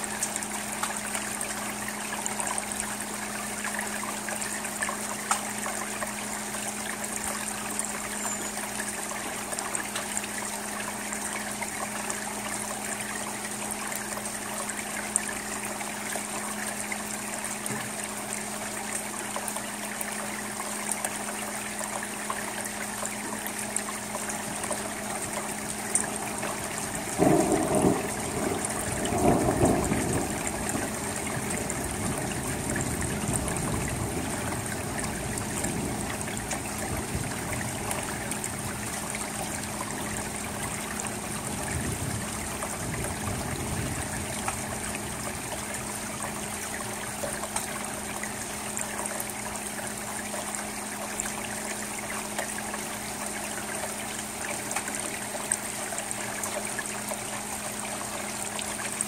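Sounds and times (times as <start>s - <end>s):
rain on a roof: 0.0s - 59.0s
water trickling: 0.0s - 59.0s.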